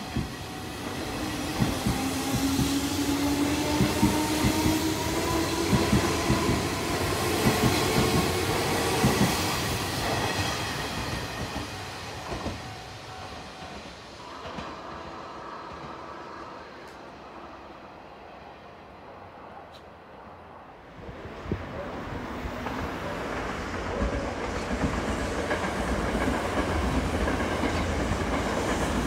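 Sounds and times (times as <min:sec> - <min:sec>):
train wheels clacking: 0:00.0 - 0:17.1, 0:22.6 - 0:29.0.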